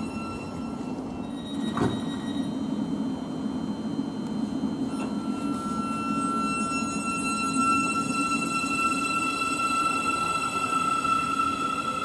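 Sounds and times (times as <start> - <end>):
high electrical whine: 0.0 - 12.0
train low hum: 0.0 - 12.0.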